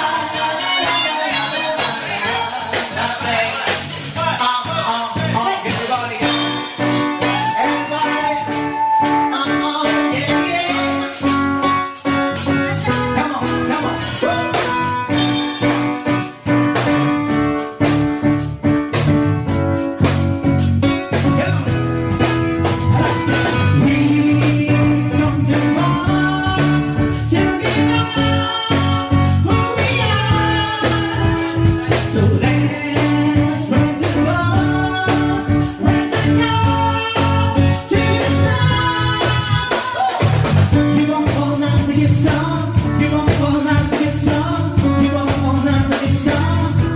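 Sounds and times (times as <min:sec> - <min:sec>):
electronic keyboard: 0:00.0 - 0:04.2, 0:05.0 - 0:46.9
person singing: 0:00.0 - 0:16.2, 0:21.0 - 0:46.9
steady drum beat: 0:00.0 - 0:46.9.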